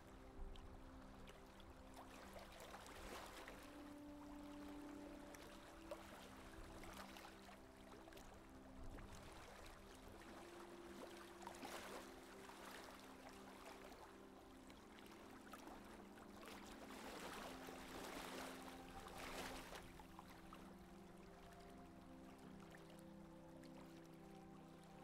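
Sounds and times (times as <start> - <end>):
soft background music: 0.0 - 25.0
water rushing along boat hull: 0.0 - 25.0.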